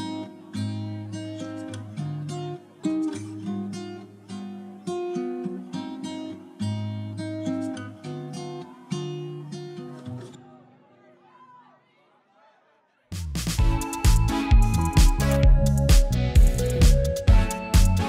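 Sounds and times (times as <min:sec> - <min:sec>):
acoustic guitar strumming: 0:00.0 - 0:10.4, 0:13.6 - 0:18.0.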